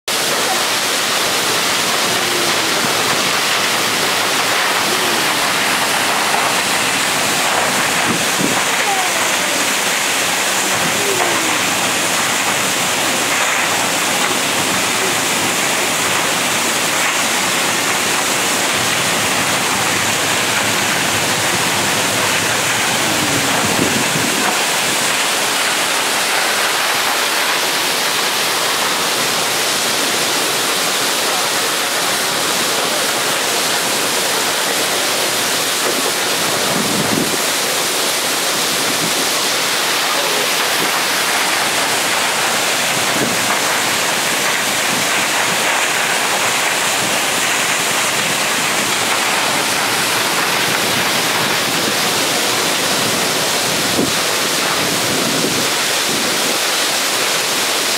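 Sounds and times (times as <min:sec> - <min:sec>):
waterfall rushing onto rocks: 0:00.0 - 0:57.9.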